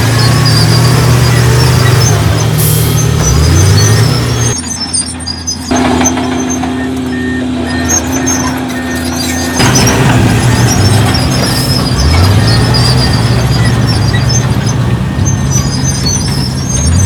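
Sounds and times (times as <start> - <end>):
heavy machinery diesel engines: 0.0 - 17.0.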